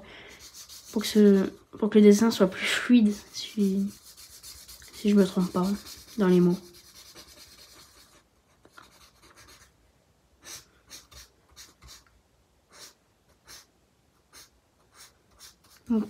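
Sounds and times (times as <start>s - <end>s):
marker scratching on paper: 0.4s - 1.6s, 3.0s - 9.7s, 10.4s - 12.1s, 12.7s - 16.0s.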